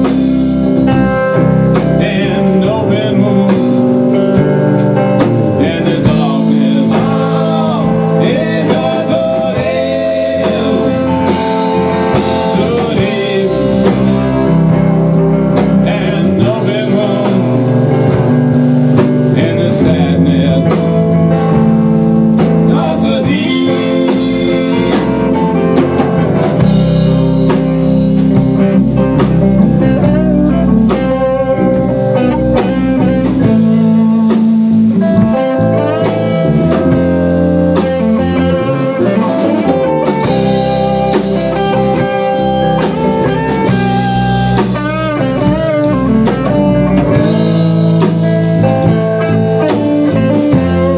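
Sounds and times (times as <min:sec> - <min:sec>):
bass guitar: 0:00.0 - 0:50.9
drum kit: 0:00.0 - 0:50.9
electric guitars: 0:00.0 - 0:50.9.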